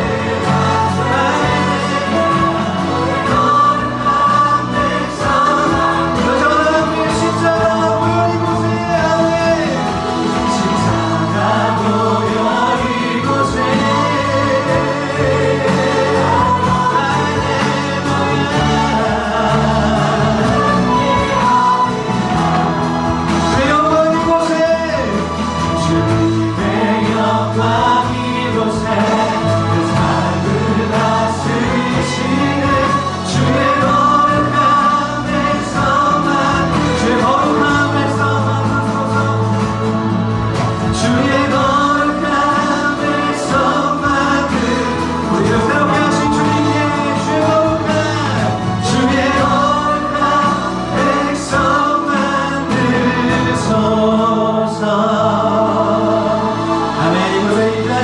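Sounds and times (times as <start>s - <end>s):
group singing worship song: 0.0s - 58.0s
instrumental accompaniment: 0.0s - 58.0s.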